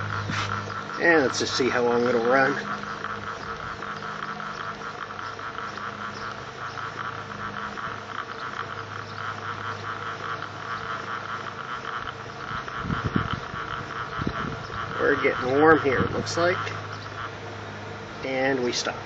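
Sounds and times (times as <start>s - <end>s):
crackling buzz: 0.0s - 19.0s
electrical hum: 0.0s - 19.0s.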